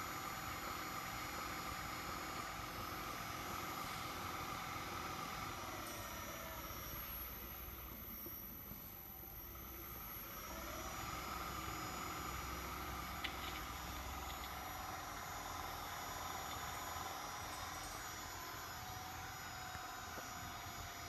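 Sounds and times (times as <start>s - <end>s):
electric motor humming and whining: 0.0s - 21.0s.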